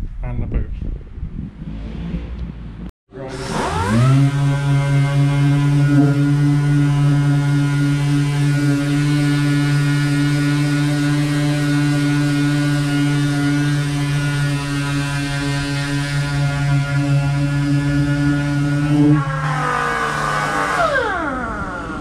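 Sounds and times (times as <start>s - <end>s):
air sander humming: 1.6s - 22.0s.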